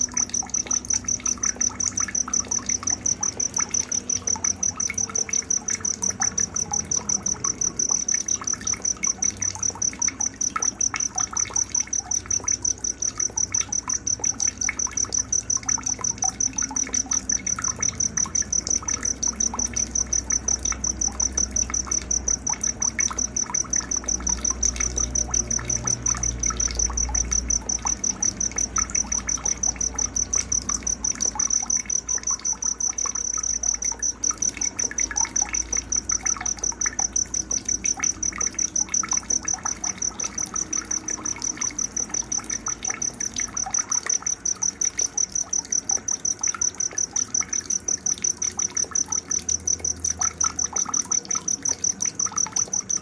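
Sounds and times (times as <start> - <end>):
cricket trilling: 0.0 - 53.0
faint trickle of water: 0.0 - 53.0.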